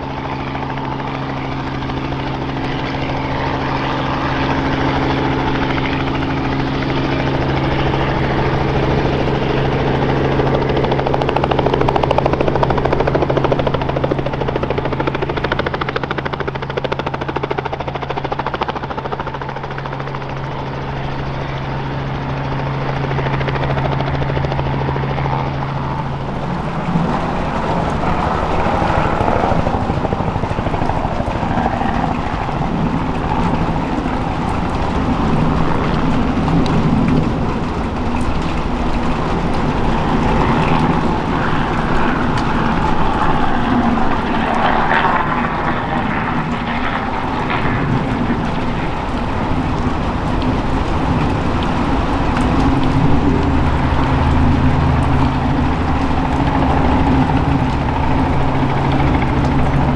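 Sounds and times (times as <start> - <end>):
helicopter rotor and engine: 0.0 - 59.9.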